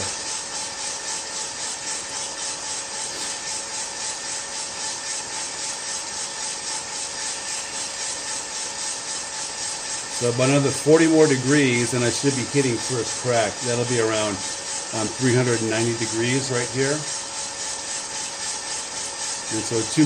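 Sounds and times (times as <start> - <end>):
coffee beans tumbling in drum: 0.0 - 20.0
roaster fan hum: 0.0 - 20.0.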